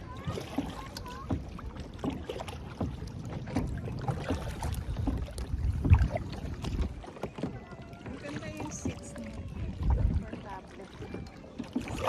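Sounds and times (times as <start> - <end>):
paddle splashes and drips: 0.0 - 12.0.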